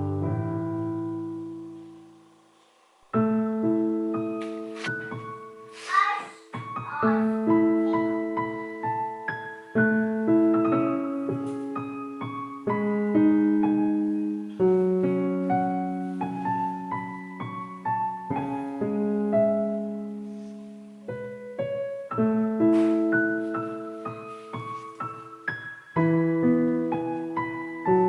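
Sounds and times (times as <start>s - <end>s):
slow gentle solo instrumental: 0.0s - 28.0s.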